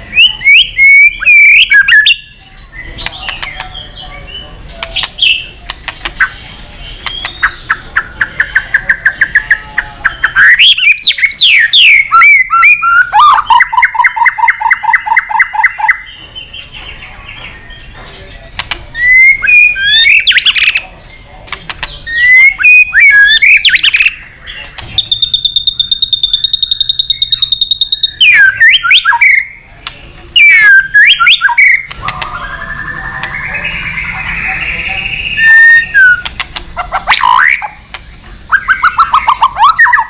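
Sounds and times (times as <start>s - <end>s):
songbird singing varied song: 0.0s - 40.0s.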